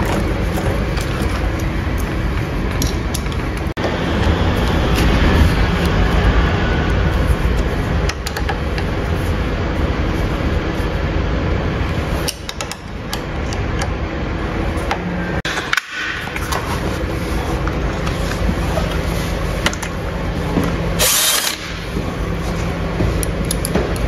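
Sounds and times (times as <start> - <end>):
machinery rumble and hiss: 0.0 - 24.0.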